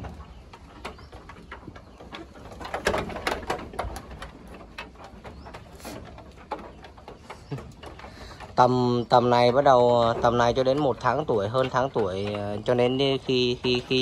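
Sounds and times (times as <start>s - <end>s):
goat hooves on wooden floor: 0.0s - 14.0s.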